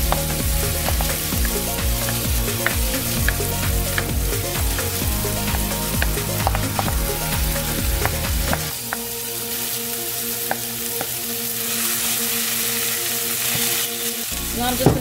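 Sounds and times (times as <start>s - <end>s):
oil sizzling in a frying pan: 0.0s - 15.0s.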